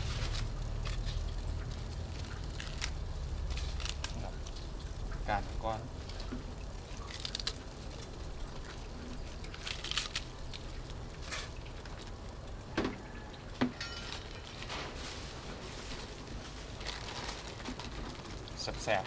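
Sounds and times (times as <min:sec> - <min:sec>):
plastic bag handled: 0:00.0 - 0:12.2, 0:13.6 - 0:19.0.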